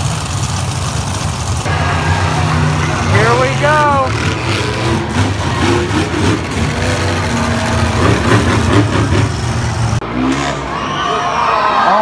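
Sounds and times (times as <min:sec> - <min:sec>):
truck engines rumbling: 0:00.0 - 0:12.0.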